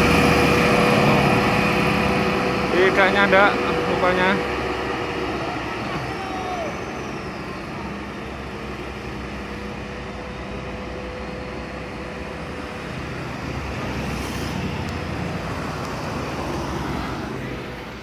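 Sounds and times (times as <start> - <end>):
diesel bus engine climbing: 0.0 - 18.0
road noise: 0.0 - 18.0.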